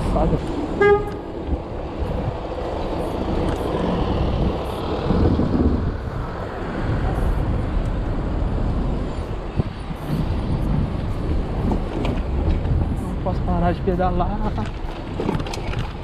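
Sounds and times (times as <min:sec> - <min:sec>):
street traffic hum: 0:00.0 - 0:16.0
wind buffeting microphone: 0:00.0 - 0:16.0.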